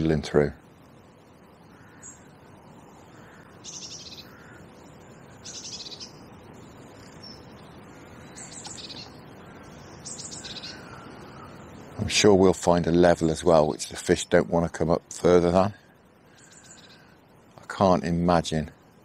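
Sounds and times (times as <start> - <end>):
faint background hiss: 0.0 - 19.0
songbird singing high phrases: 1.3 - 14.5, 15.1 - 17.3.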